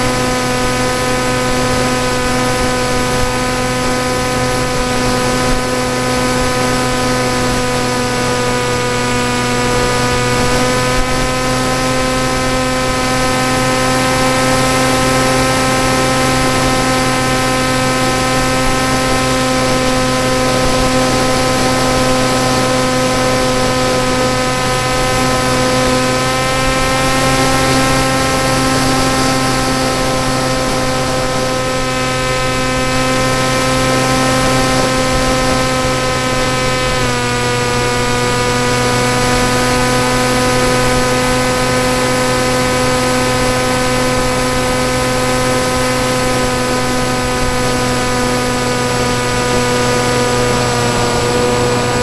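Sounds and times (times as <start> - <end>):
electric motor whine: 0.0 - 52.0
propeller rushing hiss: 0.0 - 52.0.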